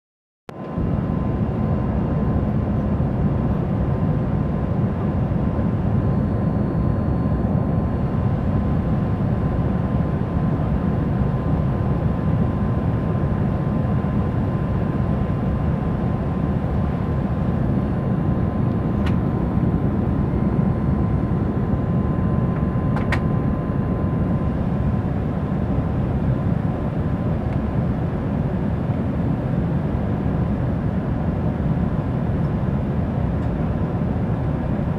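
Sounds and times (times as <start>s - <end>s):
jet engines rumbling: 0.6s - 34.9s.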